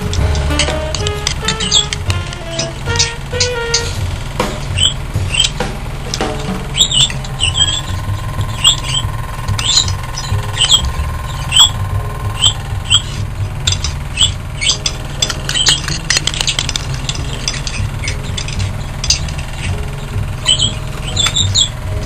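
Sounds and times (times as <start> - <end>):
birds chirping: 0.0 - 22.0
exhaust fan whirring drone: 0.0 - 22.0.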